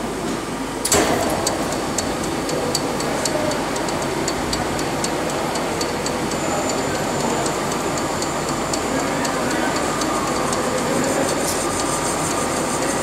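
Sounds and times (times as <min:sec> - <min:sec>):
sharp ticking: 0:01.4 - 0:12.8
lathe running: 0:01.4 - 0:13.0.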